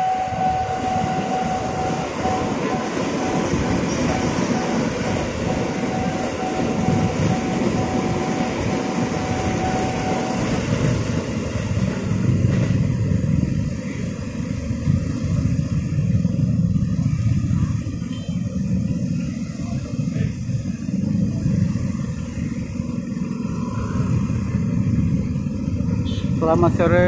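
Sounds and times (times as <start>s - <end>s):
electric train passing over rails: 0.0s - 27.0s
motorcycles idling and revving: 0.0s - 27.0s.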